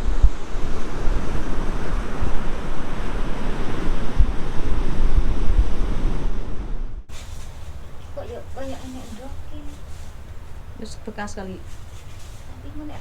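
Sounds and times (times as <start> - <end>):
ocean surf washing onto beach: 0.0 - 13.0
wind thumping on microphone: 0.0 - 13.0.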